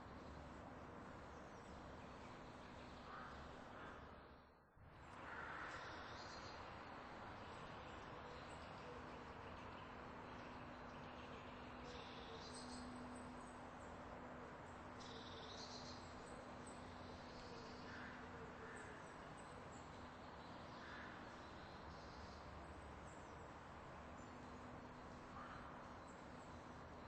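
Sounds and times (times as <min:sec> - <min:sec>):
faint background hiss: 0:05.0 - 0:27.0.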